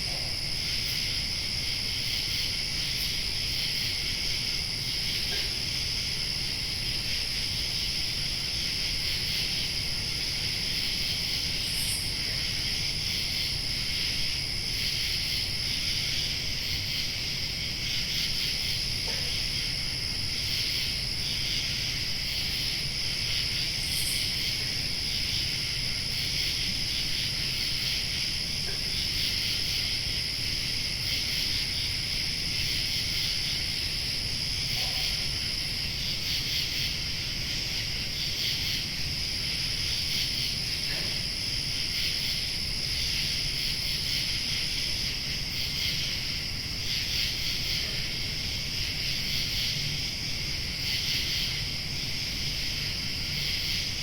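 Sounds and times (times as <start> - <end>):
crickets chirping: 0.0 - 54.0
high steady insect trill: 0.0 - 54.0.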